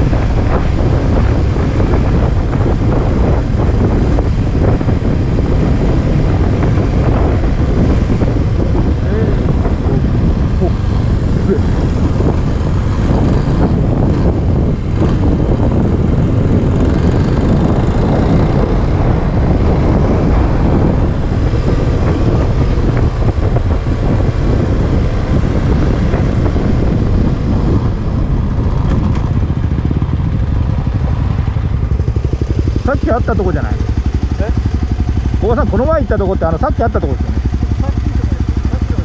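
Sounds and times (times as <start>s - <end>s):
dirt bike engine running: 0.0s - 39.0s
rumble of the ride: 0.0s - 39.0s.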